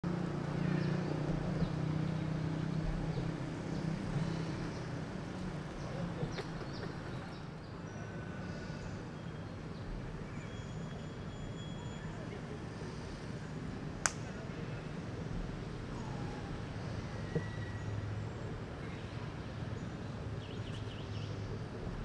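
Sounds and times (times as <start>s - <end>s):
low engine-like hum: 0.0s - 22.0s.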